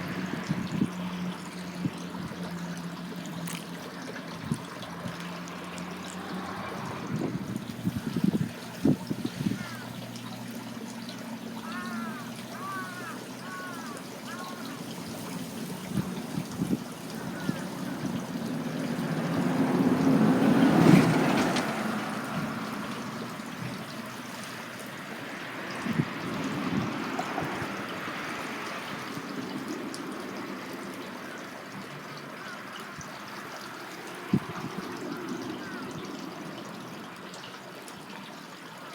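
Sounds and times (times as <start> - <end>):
vehicle passing: 0.0 - 14.2, 14.8 - 37.4
water rushing in a channel: 0.0 - 38.9.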